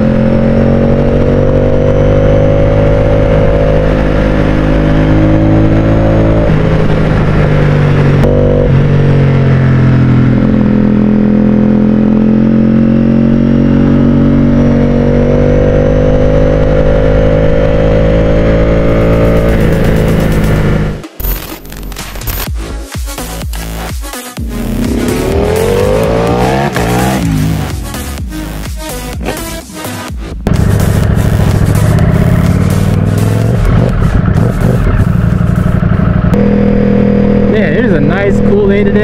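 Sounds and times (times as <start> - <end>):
motorcycle engine running: 0.0 - 22.6, 23.2 - 39.0.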